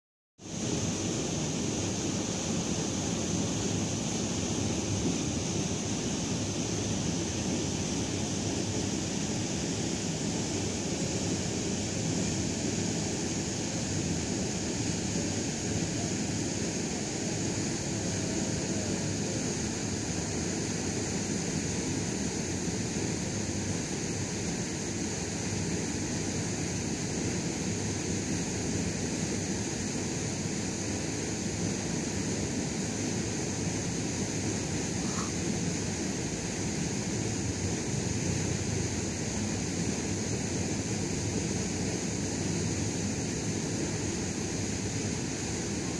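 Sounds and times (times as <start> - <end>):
water rushing from outflow: 0.4 - 45.9.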